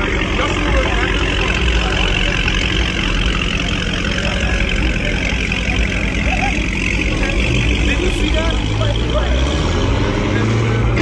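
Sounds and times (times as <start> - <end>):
car engine exhaust rumble: 0.0 - 11.0.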